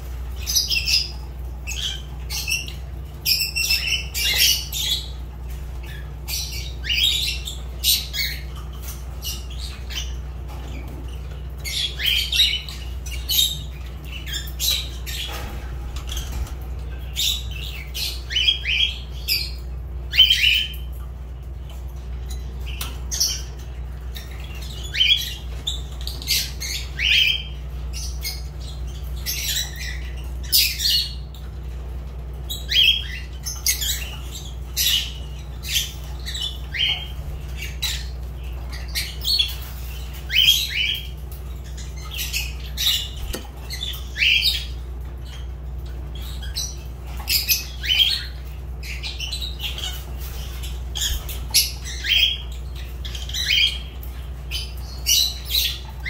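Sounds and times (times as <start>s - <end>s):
lovebirds squawking and chirping: 0.0s - 56.0s
steady low hum: 0.0s - 56.0s.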